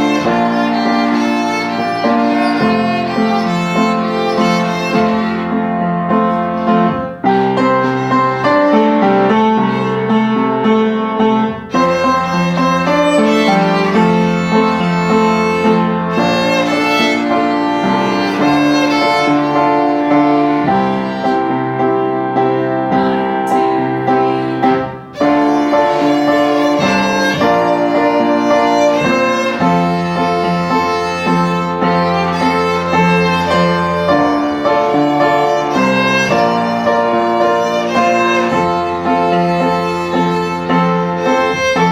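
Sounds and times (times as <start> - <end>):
low musical accompaniment: 0.0 - 41.9
violin melody: 0.0 - 41.9.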